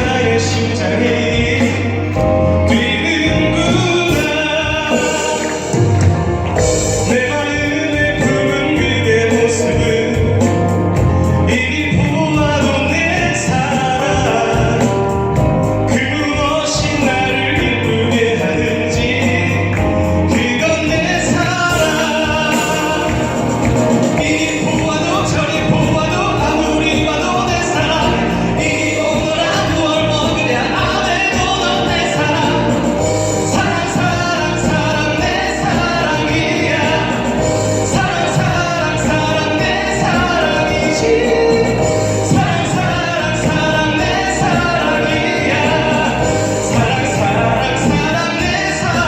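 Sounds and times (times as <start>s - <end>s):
musical backing track: 0.0s - 49.0s
person singing love song: 0.0s - 49.0s.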